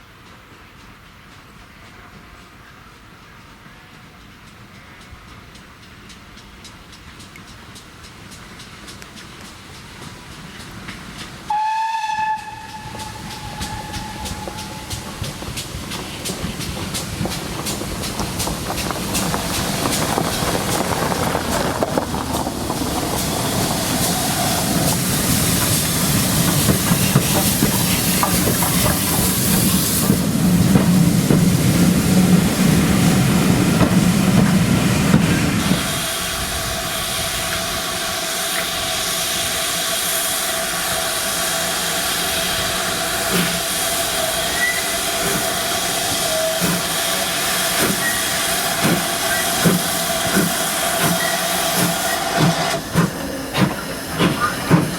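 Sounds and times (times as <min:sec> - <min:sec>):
train rumbling on track: 0:00.0 - 0:54.9
steam locomotive hissing: 0:00.2 - 0:54.9.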